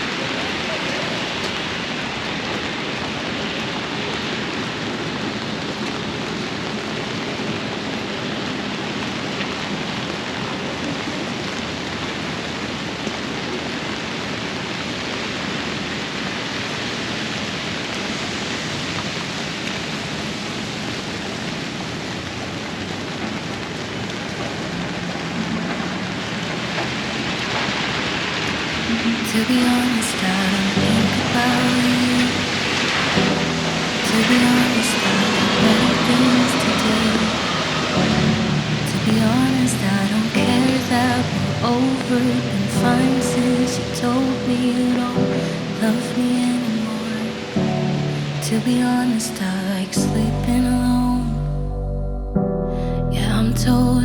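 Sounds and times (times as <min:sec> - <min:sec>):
rain downpour: 0:00.0 - 0:51.0.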